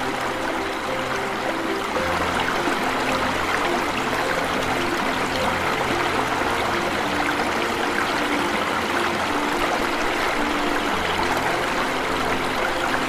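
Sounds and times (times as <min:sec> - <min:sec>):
soft background music: 0:00.0 - 0:13.0
water splashing over waterfall: 0:00.0 - 0:13.0.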